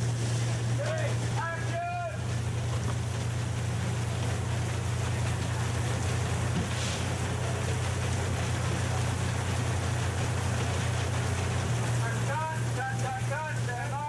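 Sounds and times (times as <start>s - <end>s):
low mechanical hum: 0.0s - 14.0s
rain machine pouring water: 0.0s - 14.0s.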